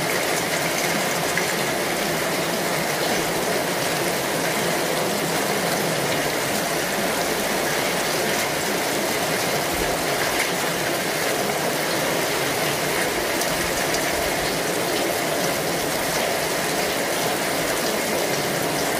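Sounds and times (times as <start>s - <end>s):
water rushing: 0.0s - 18.9s.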